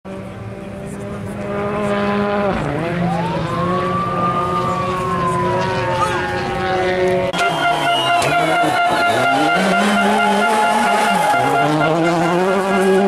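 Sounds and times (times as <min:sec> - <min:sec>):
rally car engine revving: 0:00.1 - 0:13.0.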